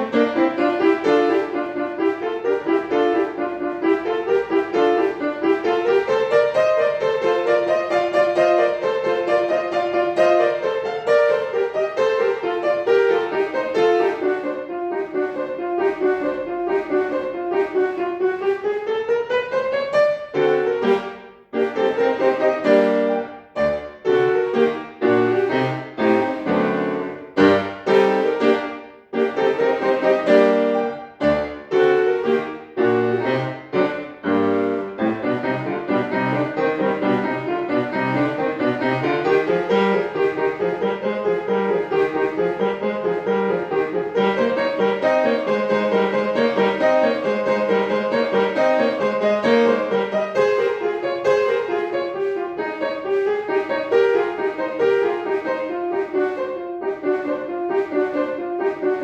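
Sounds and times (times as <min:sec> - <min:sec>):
solo piano classical piece: 0:00.0 - 0:59.0.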